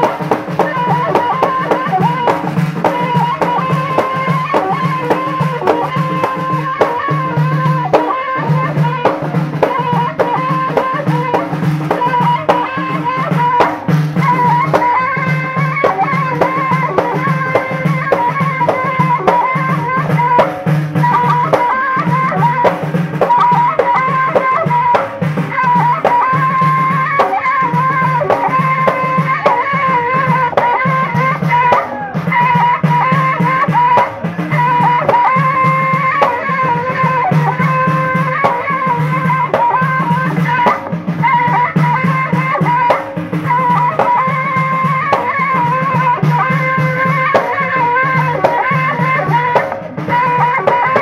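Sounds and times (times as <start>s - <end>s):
frame drums beating a rhythm: 0.0s - 51.0s.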